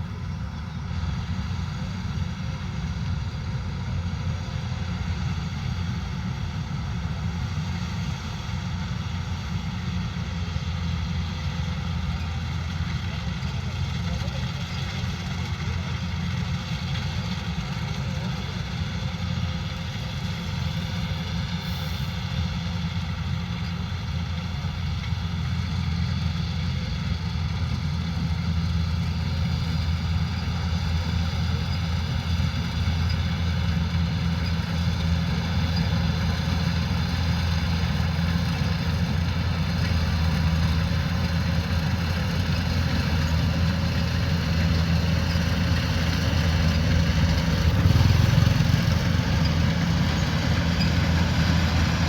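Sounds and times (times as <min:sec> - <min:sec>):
combine harvester engine humming: 0:00.0 - 0:52.0.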